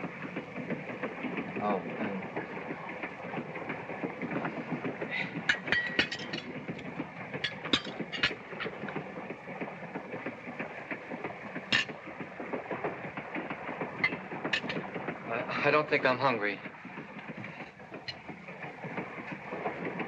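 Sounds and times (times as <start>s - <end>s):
train car rumble and clatter: 0.0s - 20.0s.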